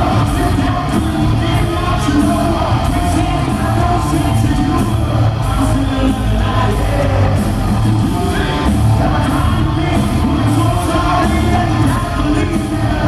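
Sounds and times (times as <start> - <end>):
live hard rock band: 0.0 - 13.0
man singing: 0.0 - 13.0.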